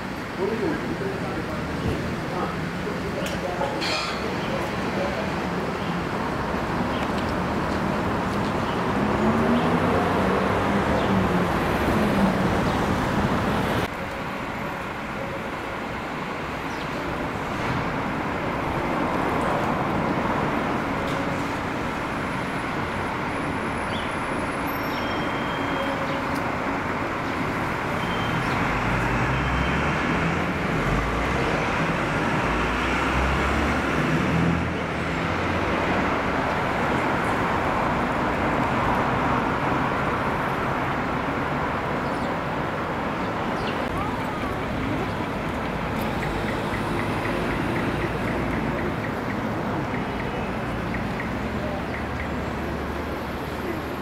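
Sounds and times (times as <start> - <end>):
cars driving past: 0.0 - 13.9, 16.1 - 54.0.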